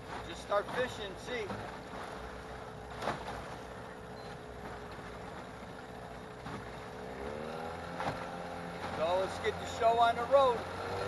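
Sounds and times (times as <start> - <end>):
small boat motor running: 0.0 - 11.0.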